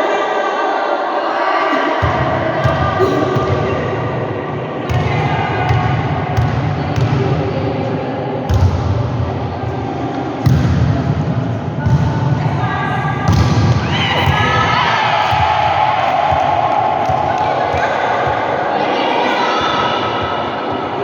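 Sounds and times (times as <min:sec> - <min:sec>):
players' voices: 0:00.0 - 0:21.0.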